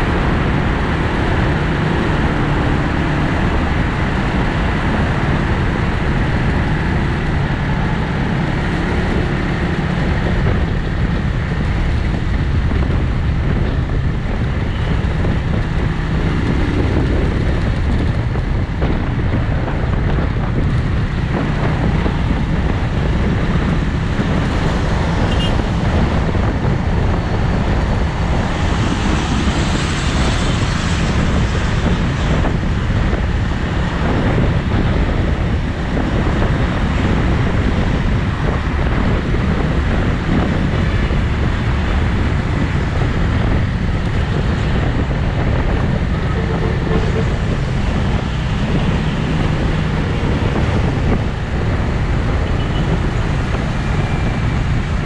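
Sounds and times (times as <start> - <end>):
motorcycle engine low rumble: 0.0 - 55.0
road noise: 0.0 - 55.0
wind rushing over microphone: 0.0 - 55.0.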